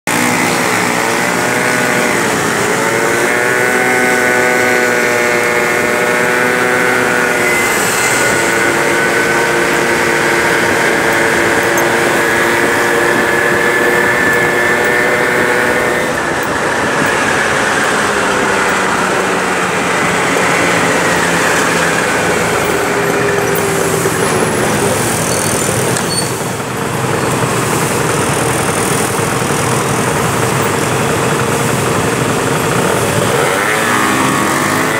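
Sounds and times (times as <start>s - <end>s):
scooter engine running: 0.0s - 34.9s
wind and road noise: 0.1s - 34.9s.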